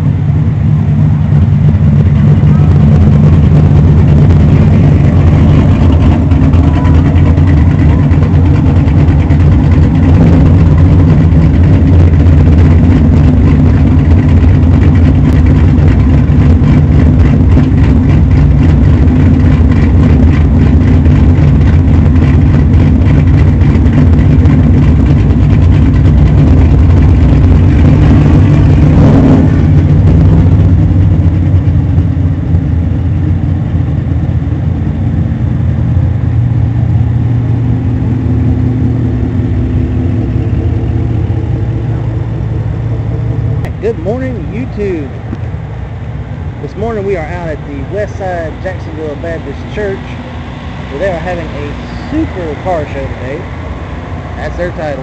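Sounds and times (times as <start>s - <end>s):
rushing noise: 0.0s - 55.0s
vehicle engine running: 0.0s - 55.0s.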